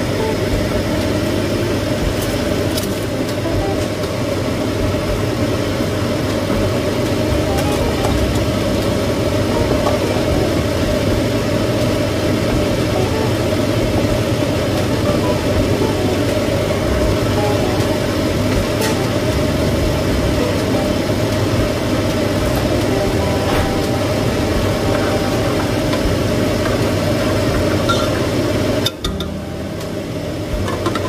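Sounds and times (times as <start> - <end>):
exhaust fan whirring: 0.0 - 31.0.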